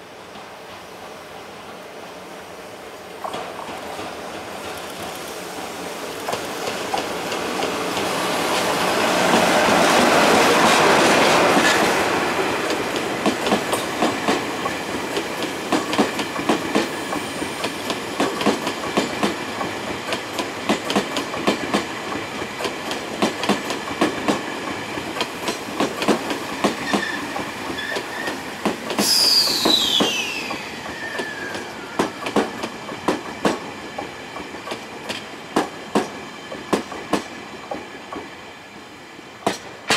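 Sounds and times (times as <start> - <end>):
freight train passing: 0.0 - 39.9.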